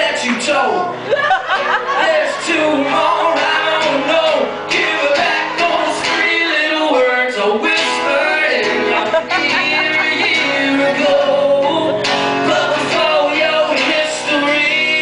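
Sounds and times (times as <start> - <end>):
live band playing: 0.0 - 15.0
person singing: 1.8 - 15.0.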